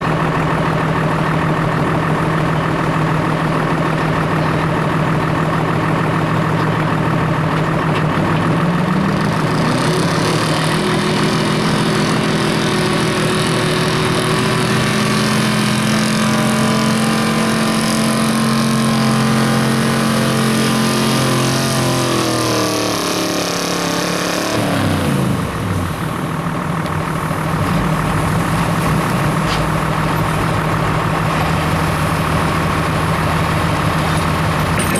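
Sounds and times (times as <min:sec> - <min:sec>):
truck engine idling and revving: 0:00.0 - 0:34.9.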